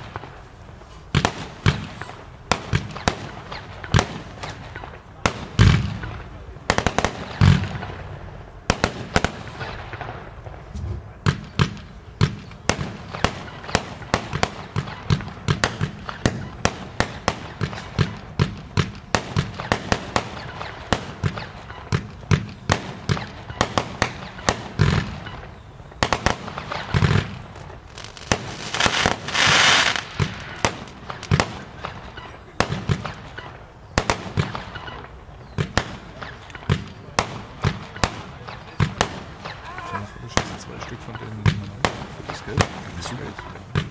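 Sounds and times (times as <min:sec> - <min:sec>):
fireworks firing: 0:00.0 - 0:43.9.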